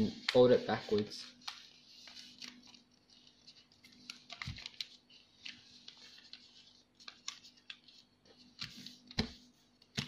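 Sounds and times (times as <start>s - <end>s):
paper crinkling and clicking: 0.1s - 10.0s.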